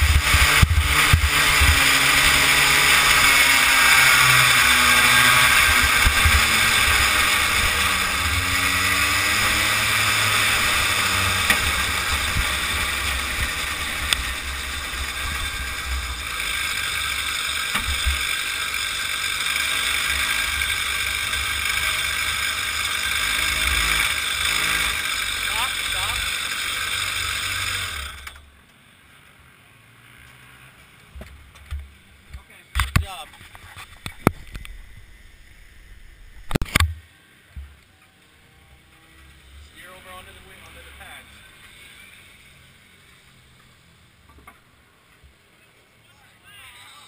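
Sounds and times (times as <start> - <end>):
kart engine running: 0.0 - 44.6.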